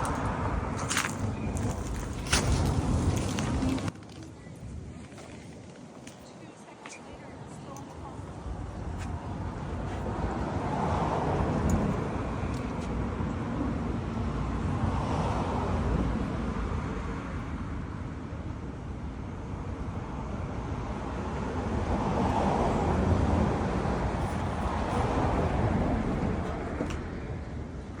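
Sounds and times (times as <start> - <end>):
cars passing: 0.0 - 3.9, 7.2 - 28.0
road traffic rumble: 0.0 - 28.0.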